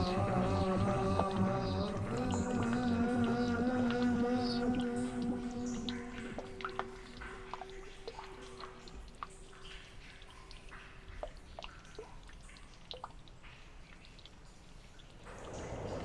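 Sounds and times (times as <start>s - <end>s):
faint water dripping: 0.0s - 16.0s.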